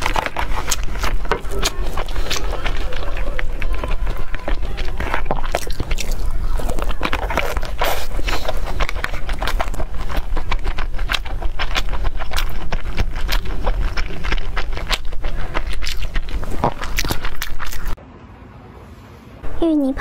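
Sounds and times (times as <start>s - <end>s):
close chewing with crackling clicks: 0.0s - 18.0s.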